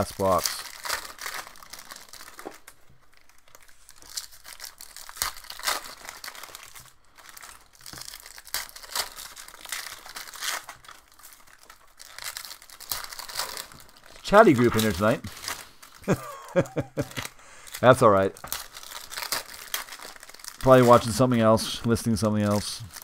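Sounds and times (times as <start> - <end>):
plastic wrapping crinkling and tearing: 0.0 - 23.0.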